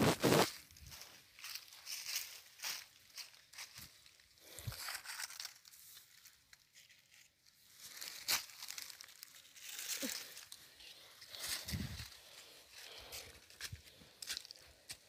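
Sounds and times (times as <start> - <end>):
dry leaves rustling and crackling: 0.0 - 15.0.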